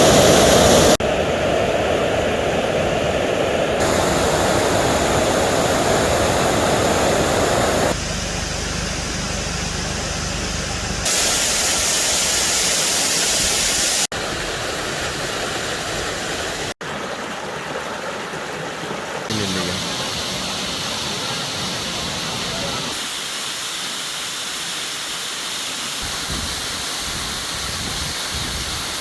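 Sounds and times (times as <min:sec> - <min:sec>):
waterfall roaring: 0:00.0 - 0:08.0, 0:10.9 - 0:29.0.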